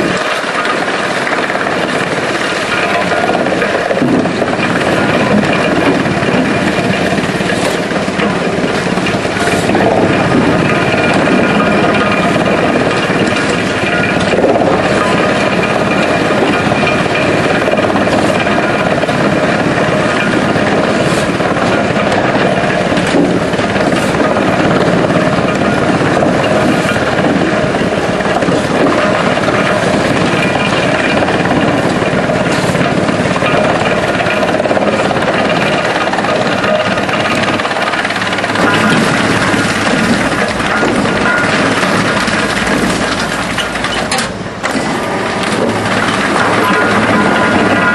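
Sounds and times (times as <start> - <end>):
wood chipper running: 0.0 - 47.9.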